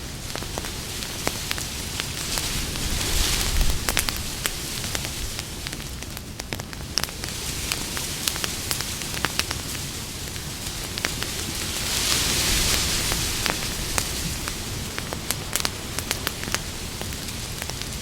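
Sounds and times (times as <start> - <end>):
campfire crackling and popping: 0.0 - 18.0
hiss and rumble of flames: 0.0 - 18.0.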